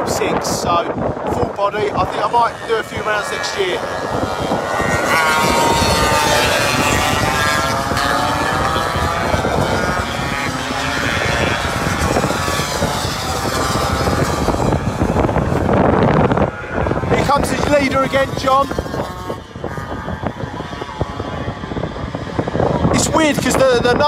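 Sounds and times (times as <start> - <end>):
racing scooters passing: 0.0 - 24.0
wind buffeting microphone: 0.0 - 24.0.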